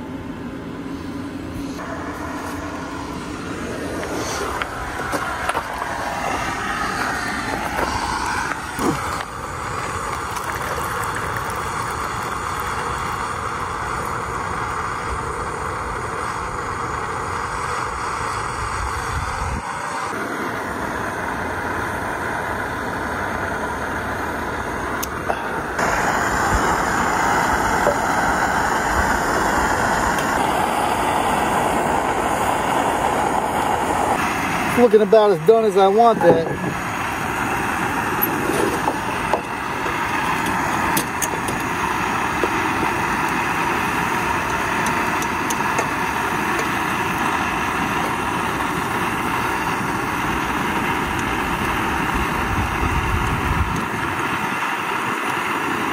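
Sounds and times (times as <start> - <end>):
gas stove burner hissing: 0.0 - 55.9.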